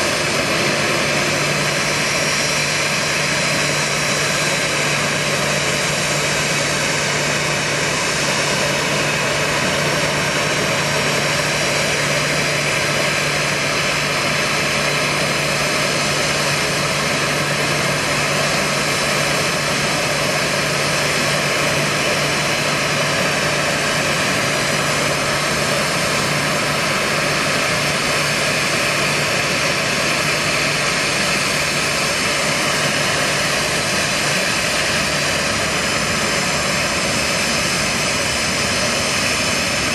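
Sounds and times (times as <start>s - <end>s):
jet engine starting up: 0.0s - 39.9s.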